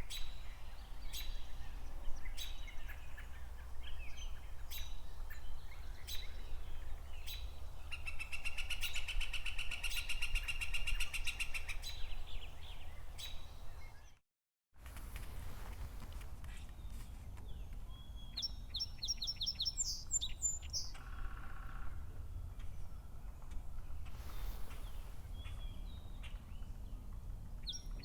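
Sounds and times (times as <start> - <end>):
songbirds singing: 0.0 - 14.2, 16.5 - 22.0, 23.9 - 28.0.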